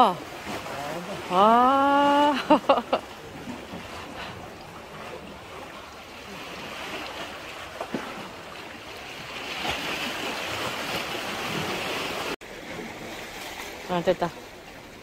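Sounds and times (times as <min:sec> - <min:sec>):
water washing against rocks: 0:00.0 - 0:15.0.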